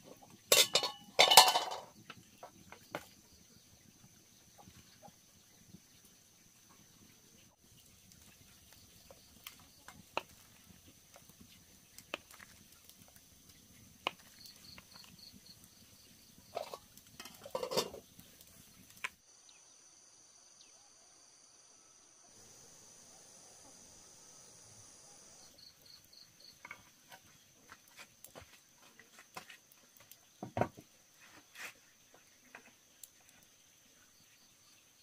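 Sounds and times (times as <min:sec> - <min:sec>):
insects trilling: 0:00.8 - 0:35.0.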